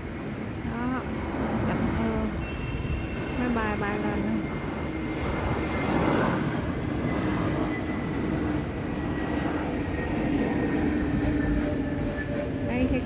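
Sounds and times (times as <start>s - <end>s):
faint high whine: 0.0s - 13.0s
loud outdoor rumble: 0.0s - 13.0s.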